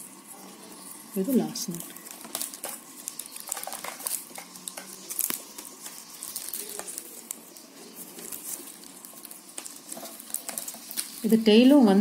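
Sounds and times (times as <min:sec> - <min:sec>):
plastic wire rustling and clicking: 0:01.7 - 0:11.4.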